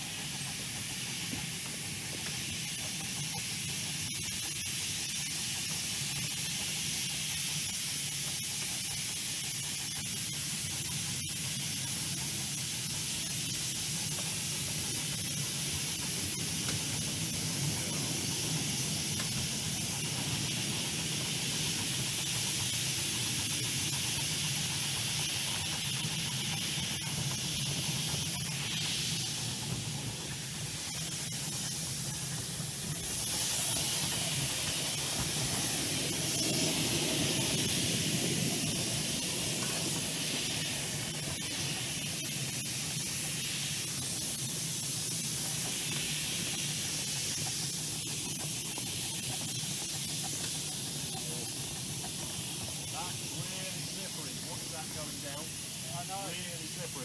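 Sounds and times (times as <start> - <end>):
train running along track: 0.0 - 57.0.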